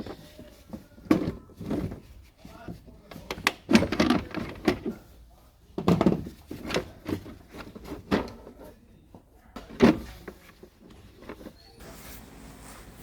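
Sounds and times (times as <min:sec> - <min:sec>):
plastic parts knocking and rattling: 0:00.0 - 0:11.6.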